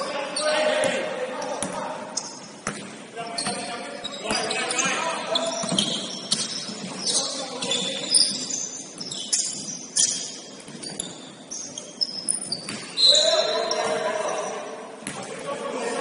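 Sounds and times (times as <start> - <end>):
shoes squeaking on gym floor: 1.4 - 14.8.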